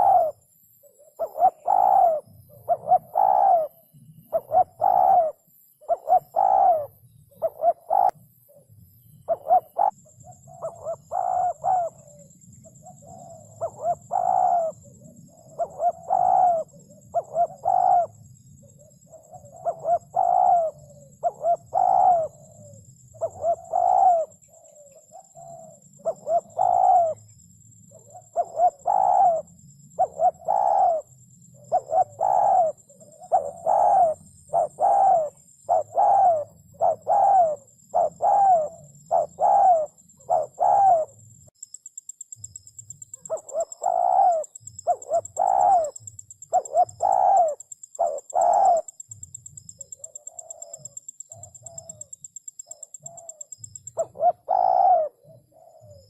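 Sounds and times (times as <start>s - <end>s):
dove cooing: 0.0s - 41.2s, 43.1s - 56.0s
faint high-pitched whine: 0.0s - 56.0s.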